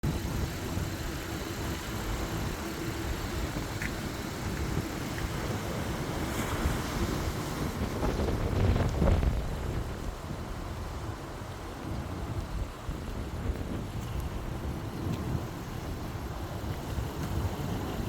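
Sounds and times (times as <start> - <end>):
surf: 0.0 - 18.0
wind buffeting microphone: 0.0 - 18.0.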